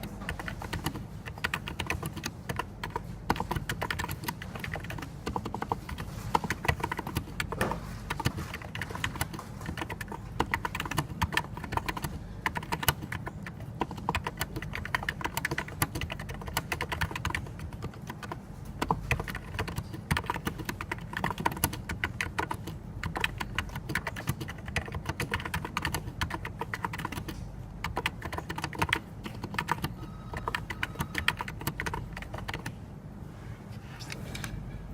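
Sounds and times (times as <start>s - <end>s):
keyboard typing: 0.0s - 32.8s.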